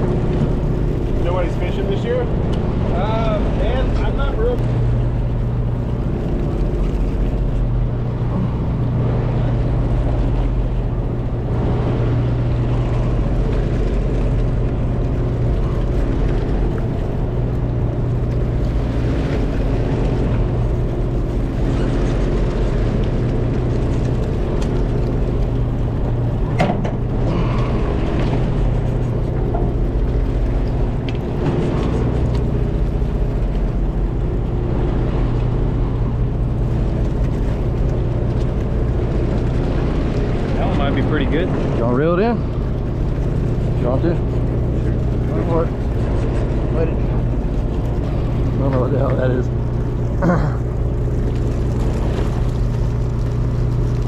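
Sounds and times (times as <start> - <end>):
boat engine humming: 0.0 - 54.0
water washing along hull: 0.0 - 54.0.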